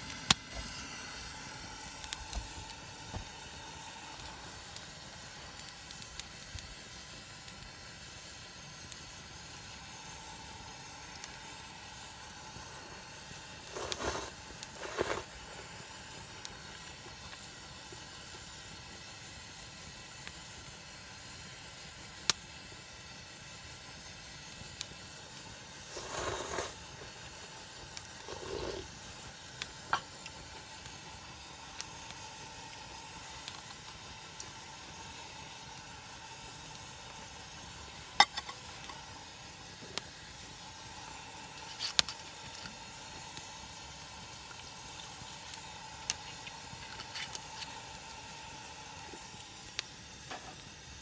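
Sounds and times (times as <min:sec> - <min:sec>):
cooking hiss: 0:00.0 - 0:51.0.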